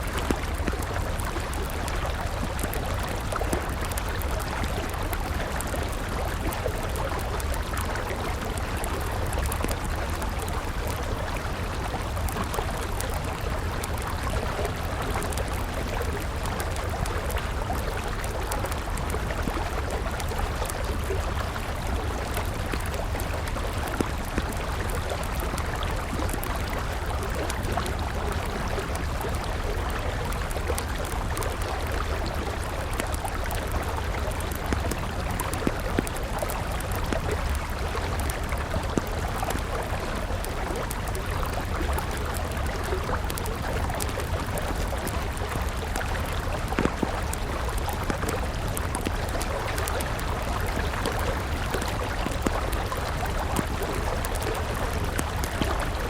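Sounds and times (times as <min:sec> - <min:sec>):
campfire crackling and popping: 0:00.0 - 0:56.0
river water flowing: 0:00.0 - 0:56.0.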